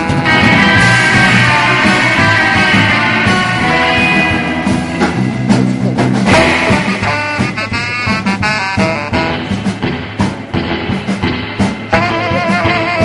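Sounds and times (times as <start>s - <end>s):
steady drum beat: 0.0s - 13.0s
upbeat band music: 0.0s - 13.0s.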